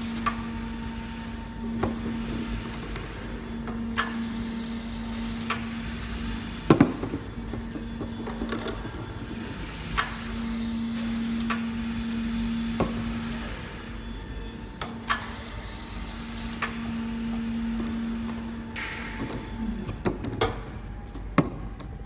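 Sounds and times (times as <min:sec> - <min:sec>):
machine motor humming: 0:00.0 - 0:22.0.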